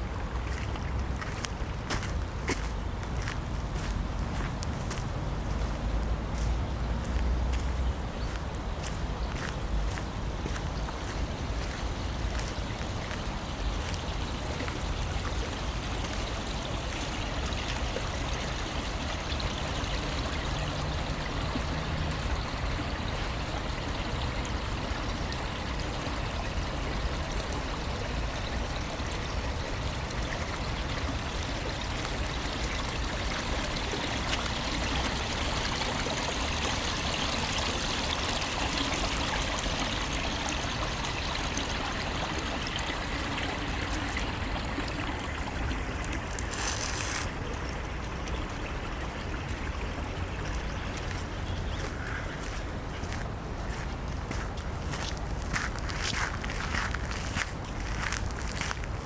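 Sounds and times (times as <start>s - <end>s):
flowing water: 0.0s - 59.0s.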